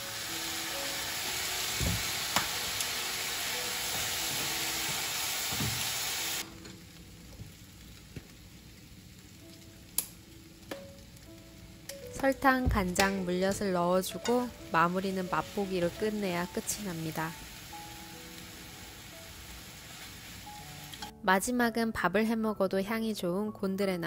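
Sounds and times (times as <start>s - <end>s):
food sizzling in a frying pan: 0.0s - 21.1s.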